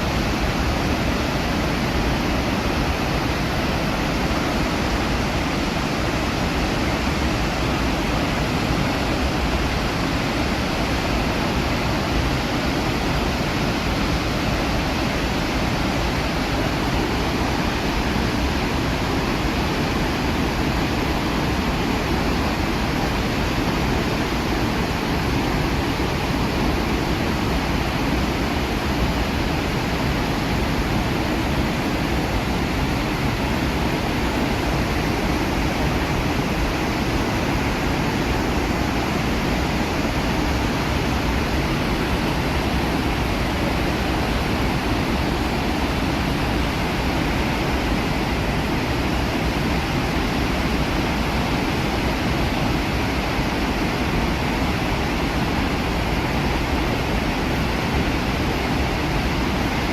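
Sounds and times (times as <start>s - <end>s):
waterfall roar: 0.0s - 59.9s.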